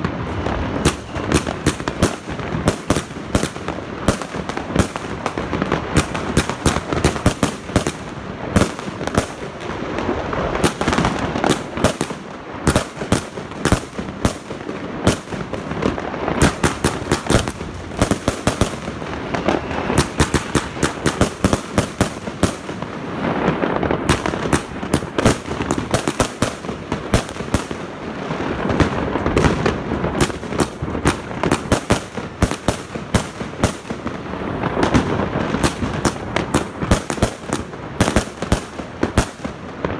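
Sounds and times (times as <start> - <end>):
rapid fireworks volley: 0.0 - 39.9.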